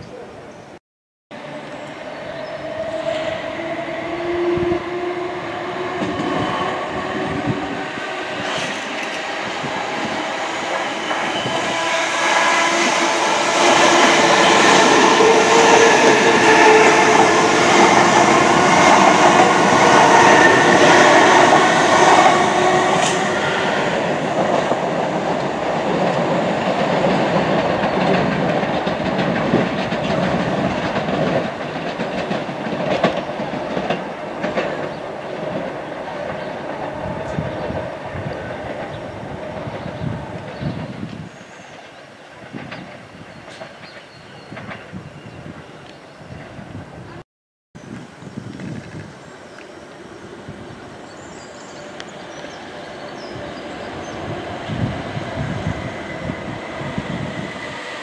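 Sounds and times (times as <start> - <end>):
train wheels on rails: 1.4 - 46.6, 48.0 - 58.0.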